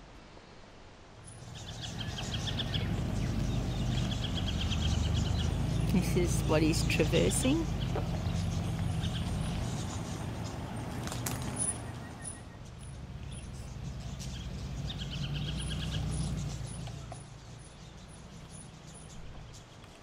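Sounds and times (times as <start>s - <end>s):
bird trill: 1.2s - 19.7s
birds chirping: 1.2s - 20.0s
vehicle engine running low: 1.3s - 20.0s.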